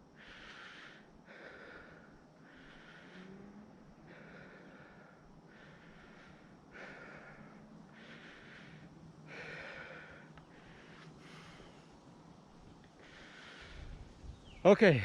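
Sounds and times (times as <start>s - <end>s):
person breathing hard and fast: 0.1s - 12.2s, 12.9s - 14.3s.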